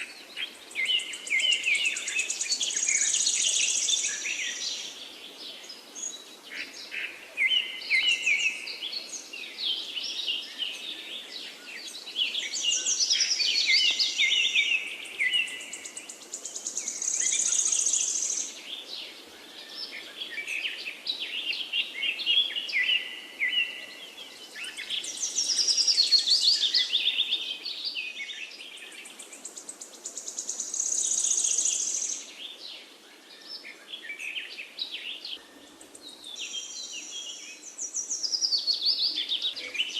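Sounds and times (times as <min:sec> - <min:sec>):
soft background hiss: 0:00.0 - 0:39.9
songbirds chirping and warbling: 0:00.0 - 0:39.9.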